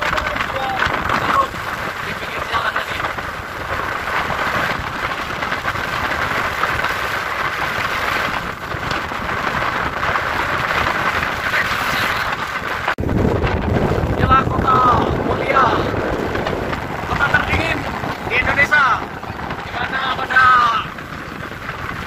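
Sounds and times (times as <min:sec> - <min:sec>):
vehicle road and wind noise: 0:00.0 - 0:22.0.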